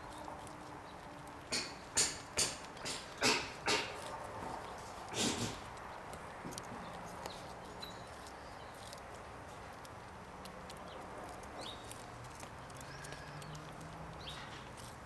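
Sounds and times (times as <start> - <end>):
squirrel gnawing corn: 0.0 - 15.0.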